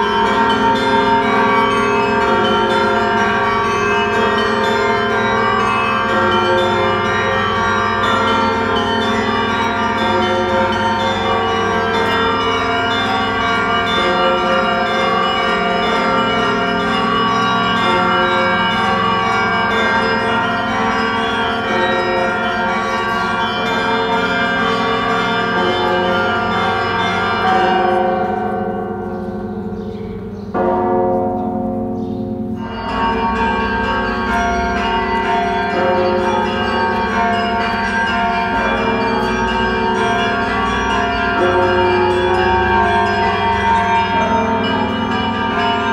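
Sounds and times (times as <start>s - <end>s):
church bells pealing: 0.0s - 45.9s.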